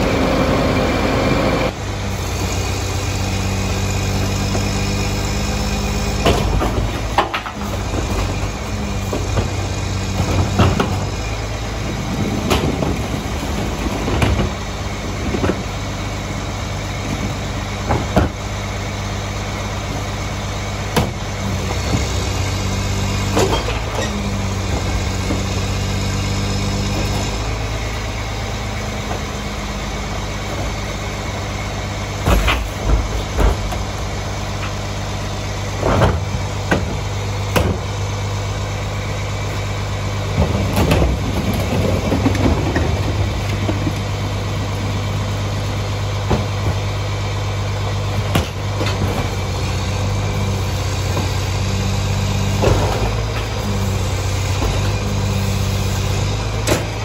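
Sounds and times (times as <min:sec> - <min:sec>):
diesel engine idling: 0:00.0 - 0:57.0
trash carts banging and clattering: 0:02.1 - 0:57.0.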